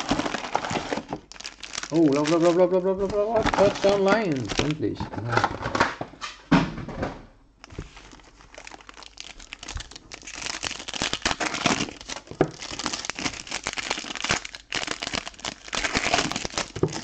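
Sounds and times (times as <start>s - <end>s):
foil wrapper crinkling and tearing: 0.0s - 5.0s, 7.6s - 17.0s.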